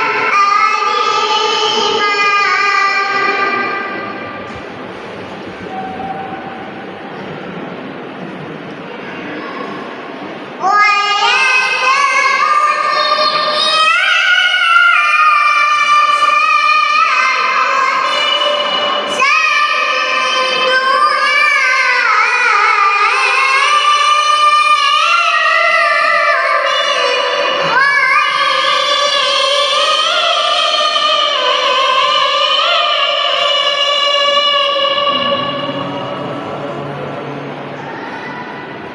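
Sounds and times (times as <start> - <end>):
girl chanting melodically: 0.0 - 4.5, 10.6 - 38.8.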